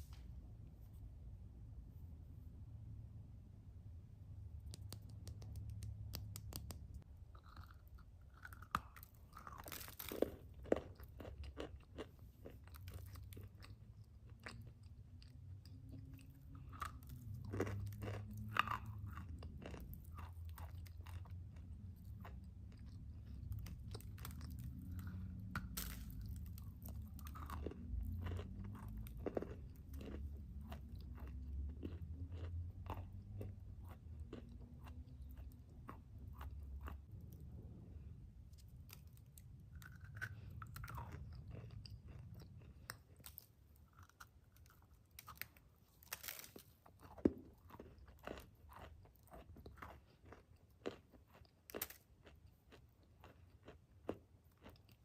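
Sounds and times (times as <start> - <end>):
person chewing crunchy food: 4.6 - 38.0, 38.6 - 55.0.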